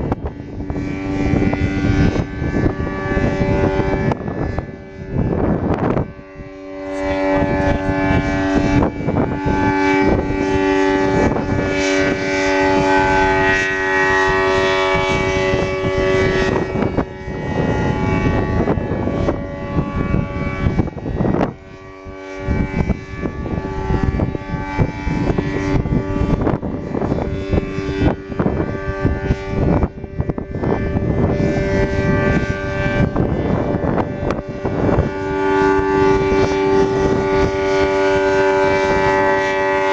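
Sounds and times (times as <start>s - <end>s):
warning siren steady tone: 0.0s - 39.9s
wind buffeting microphone: 0.0s - 39.9s.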